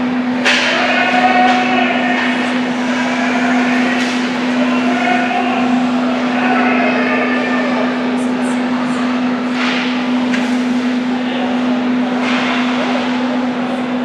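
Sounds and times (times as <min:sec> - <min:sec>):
indistinct voices: 0:00.0 - 0:14.0
steady hum: 0:00.0 - 0:14.0.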